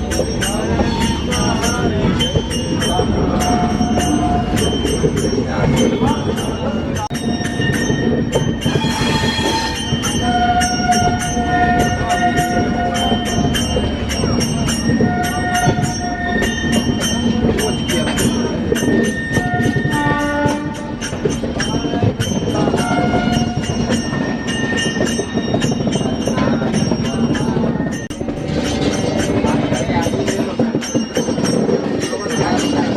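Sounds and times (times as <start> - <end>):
train running on rails: 0.0 - 32.9.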